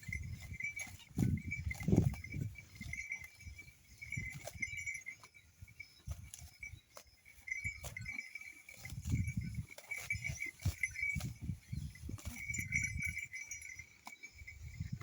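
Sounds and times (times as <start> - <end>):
brass bells jingling: 0.0 - 15.0
sharp clinks: 0.0 - 15.0.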